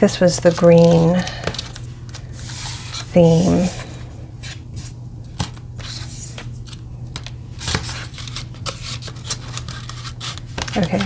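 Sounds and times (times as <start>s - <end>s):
steady low hum: 0.0s - 11.0s
paper and cardboard rustling: 0.3s - 11.0s.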